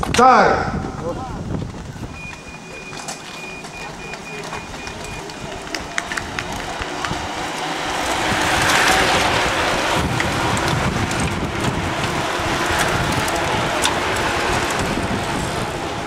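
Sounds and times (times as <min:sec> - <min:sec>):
bike tyres and freewheels rushing: 0:01.2 - 0:16.0.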